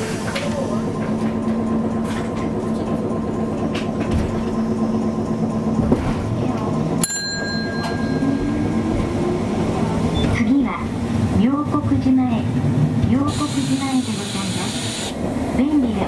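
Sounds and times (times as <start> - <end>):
tram motor hum and rumble: 0.0 - 16.0.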